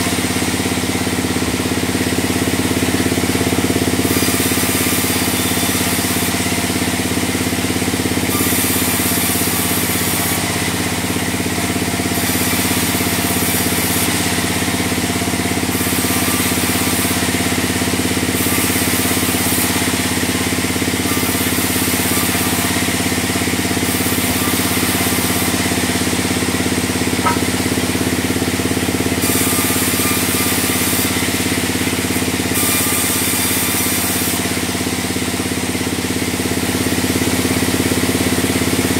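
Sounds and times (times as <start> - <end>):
saw blade hissing through log: 0.0 - 37.6
bandsaw mill motor drone: 0.0 - 38.9.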